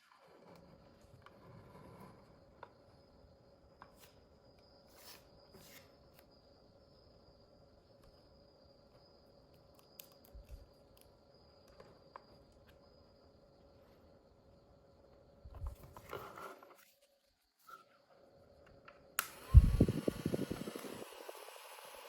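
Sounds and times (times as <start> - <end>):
faint steady hum: 0.1 - 22.0.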